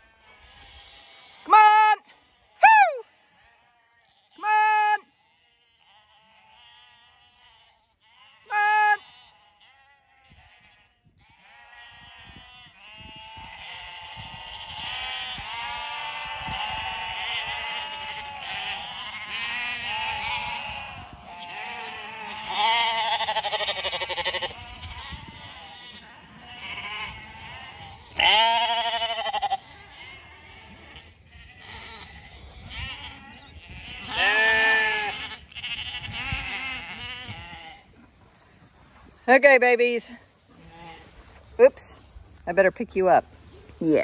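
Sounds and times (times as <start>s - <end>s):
lambs bleating: 0.0s - 2.6s, 3.2s - 37.9s, 40.6s - 41.1s.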